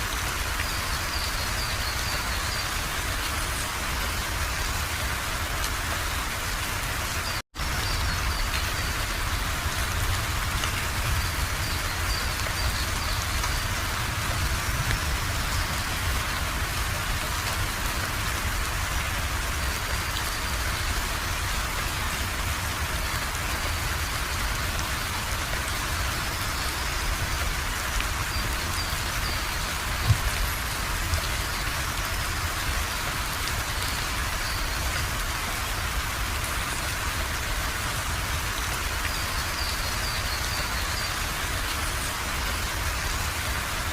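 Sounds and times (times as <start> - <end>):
rain falling on a surface: 0.0 - 43.9.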